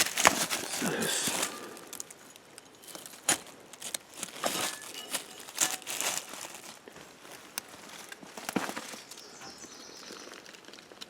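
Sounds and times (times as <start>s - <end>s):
footsteps through dry leaves: 0.0s - 11.0s.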